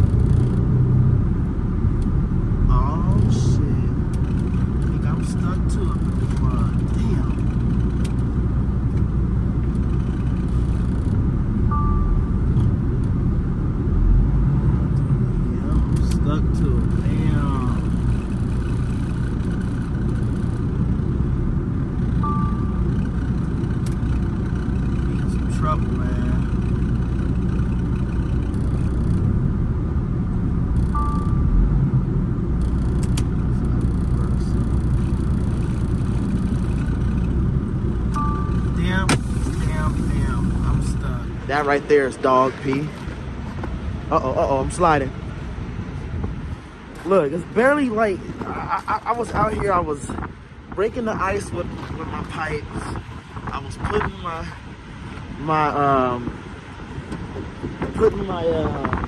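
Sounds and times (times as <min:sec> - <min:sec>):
truck diesel engine under load: 0:00.0 - 0:59.0.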